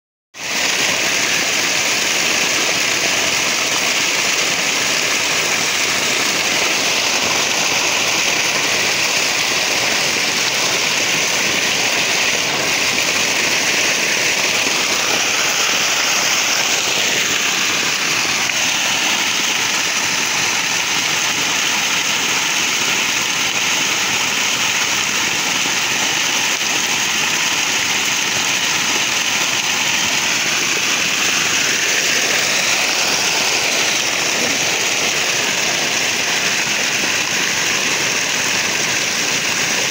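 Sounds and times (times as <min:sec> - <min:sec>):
water gushing onto ground: 0:00.3 - 0:39.9.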